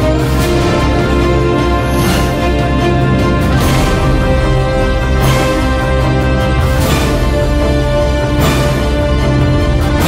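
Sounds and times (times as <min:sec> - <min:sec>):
heavy bass background music: 0:00.0 - 0:10.0.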